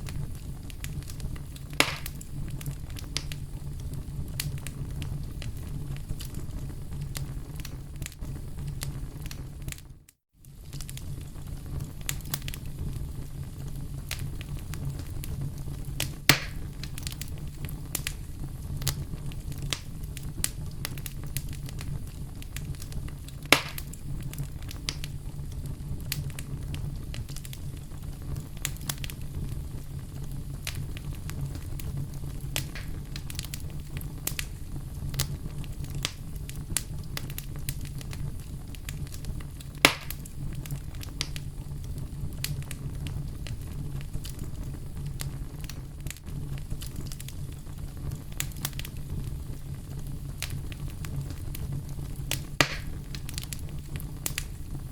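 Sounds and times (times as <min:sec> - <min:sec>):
campfire crackling: 0:00.0 - 0:54.9
fire pops: 0:00.0 - 0:54.9.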